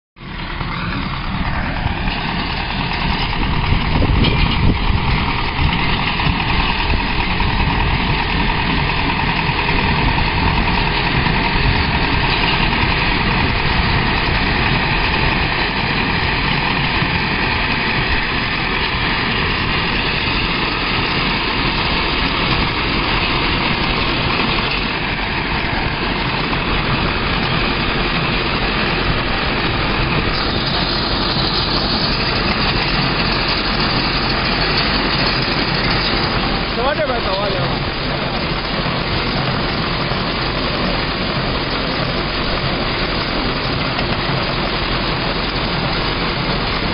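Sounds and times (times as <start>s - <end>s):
tractor engine running: 0.2s - 46.9s.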